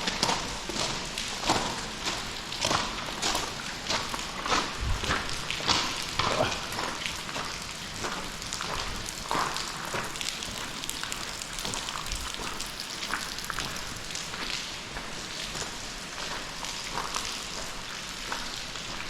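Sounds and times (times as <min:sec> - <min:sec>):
water dripping in a rock tunnel: 0:00.0 - 0:19.0.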